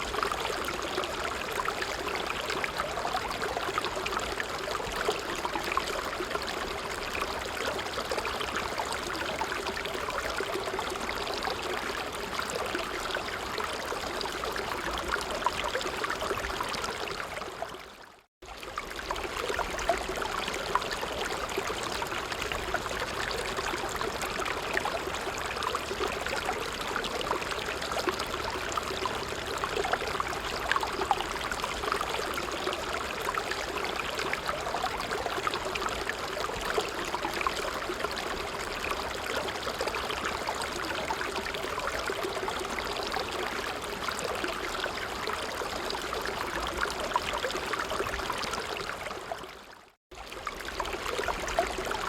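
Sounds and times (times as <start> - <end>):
stream water trickling: 0.0 - 52.0.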